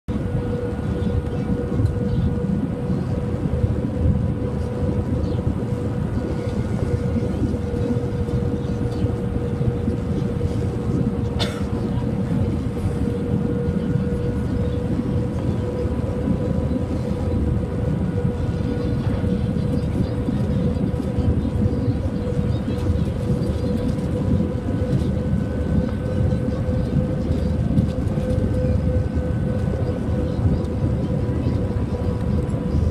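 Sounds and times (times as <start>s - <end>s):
aircraft cabin engine roar: 0.1s - 32.9s
constant hum: 0.1s - 32.9s.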